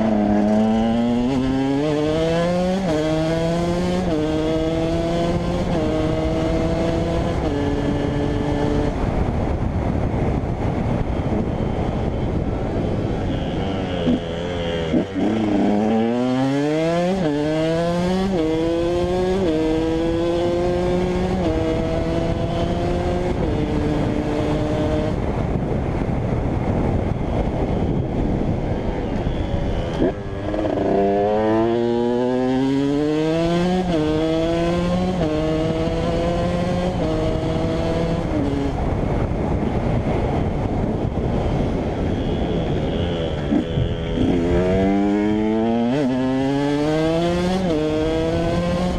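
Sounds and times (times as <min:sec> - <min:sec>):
two-stroke engine accelerating: 0:00.0 - 0:25.4, 0:29.3 - 0:48.9
steady rushing noise: 0:00.0 - 0:48.9.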